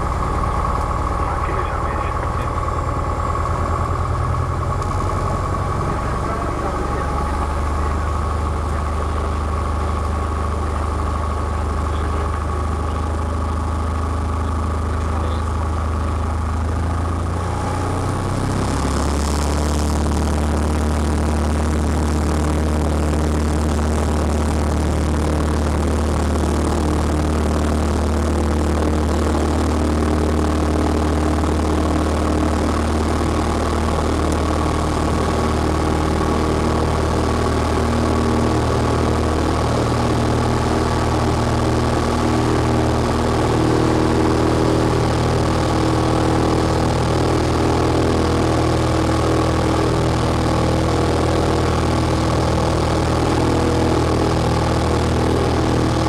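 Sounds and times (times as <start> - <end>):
propeller plane engine running: 0.0 - 56.0.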